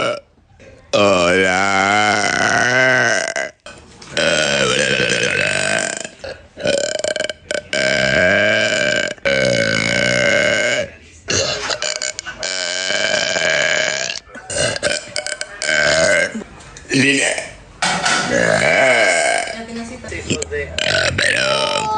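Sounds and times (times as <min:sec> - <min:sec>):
woman belching: 0:00.0 - 0:00.3, 0:00.9 - 0:16.4, 0:18.2 - 0:21.9.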